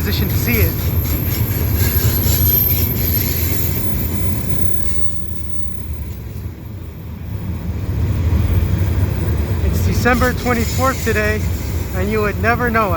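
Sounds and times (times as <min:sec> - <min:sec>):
rumble of train wheels on rail: 0:00.0 - 0:12.9.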